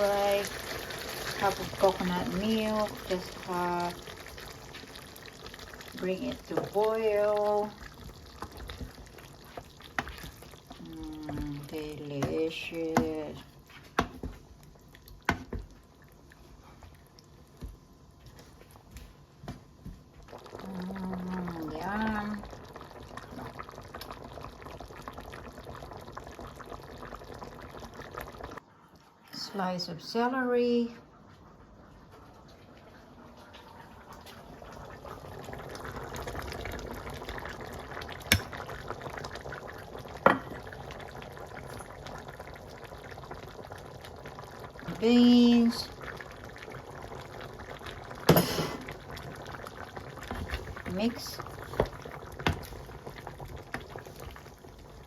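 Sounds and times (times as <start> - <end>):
curry bubbling in a pot: 0.0 - 28.6, 31.1 - 55.0.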